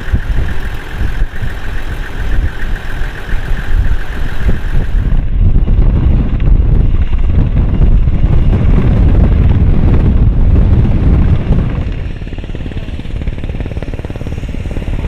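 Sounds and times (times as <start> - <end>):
helicopter rotor beating: 0.0 - 15.0
turbine engines running: 0.0 - 15.0.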